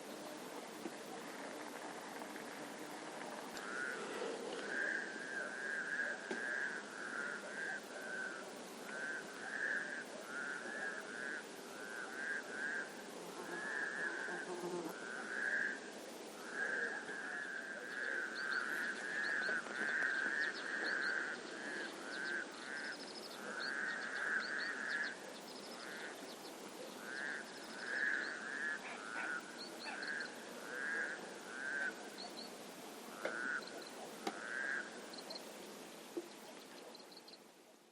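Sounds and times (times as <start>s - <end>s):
frogs croaking in chorus: 0.2s - 35.5s.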